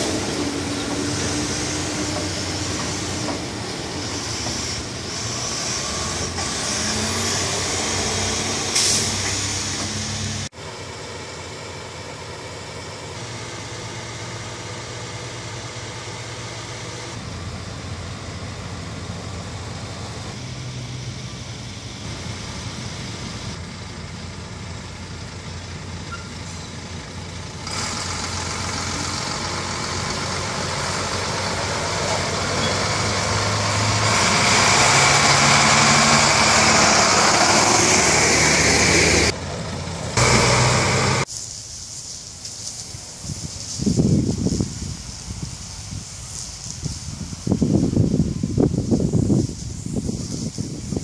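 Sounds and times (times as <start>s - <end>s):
diesel truck engines driving past: 0.0s - 43.7s.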